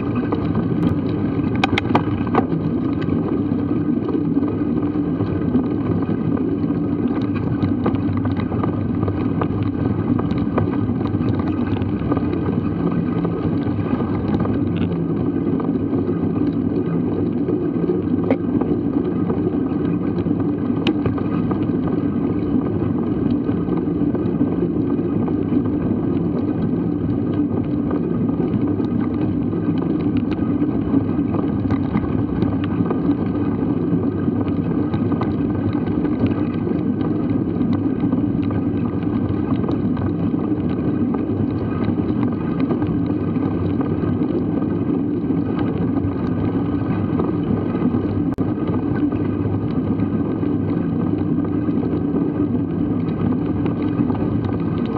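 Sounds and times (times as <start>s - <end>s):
bike rattles and clicks: 0.0s - 54.9s
bike tyres rolling on dirt: 0.0s - 54.9s
wind rumble on microphone: 0.0s - 54.9s.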